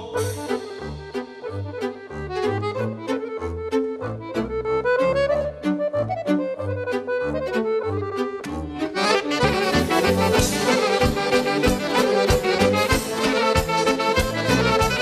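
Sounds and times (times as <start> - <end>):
accordion playing: 0.0 - 15.0
folk-pop band playing: 0.0 - 15.0.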